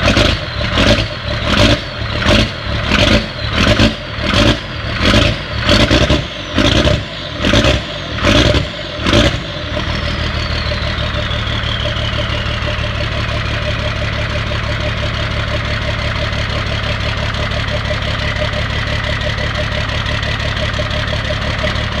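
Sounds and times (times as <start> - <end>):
diesel engine revving and idling: 0.0 - 22.0
turbo whine: 0.0 - 22.0.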